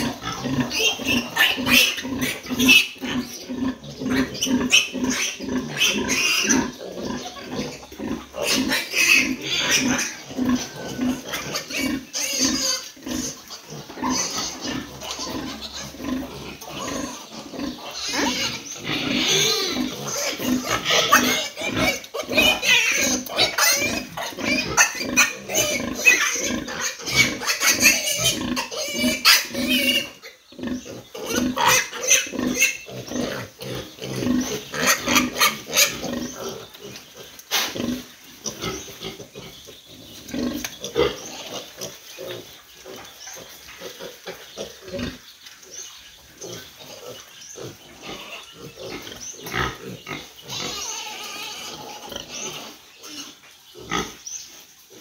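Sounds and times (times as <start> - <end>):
piglets grunting and squeaking: 0.0 - 55.0.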